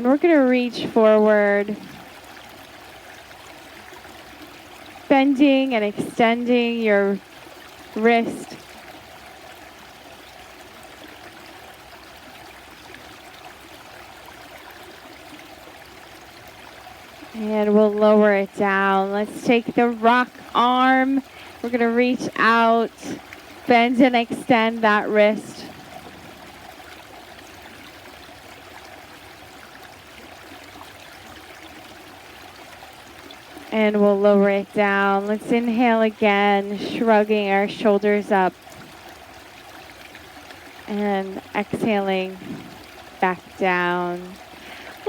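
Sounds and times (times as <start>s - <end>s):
stream flowing: 0.0s - 45.0s.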